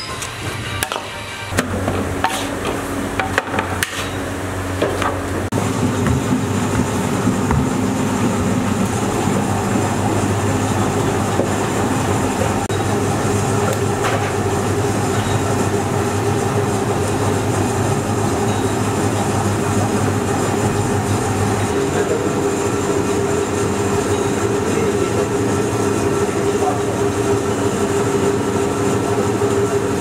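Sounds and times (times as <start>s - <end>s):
machinery hum and rumble: 0.0s - 30.0s.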